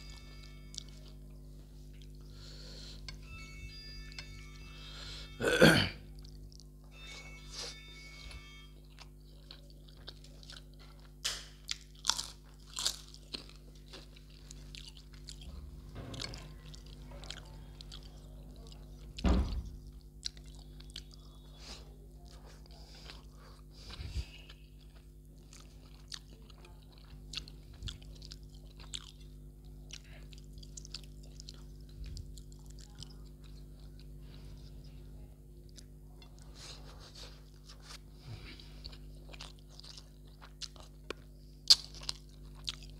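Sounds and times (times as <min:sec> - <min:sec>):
person chewing food: 0:00.0 - 0:03.2, 0:06.1 - 0:34.8, 0:35.6 - 0:42.9.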